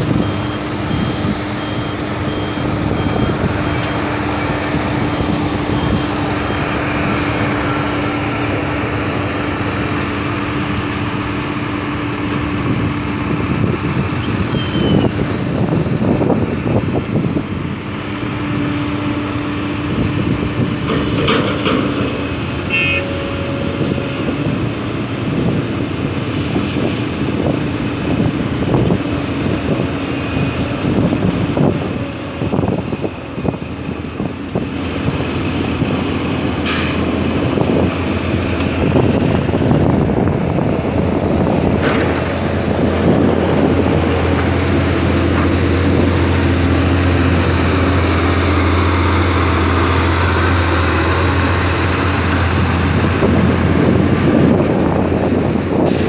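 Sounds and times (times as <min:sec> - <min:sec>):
dump truck driving by: 0:00.0 - 0:56.0
heavy machinery diesel engines: 0:00.0 - 0:56.0.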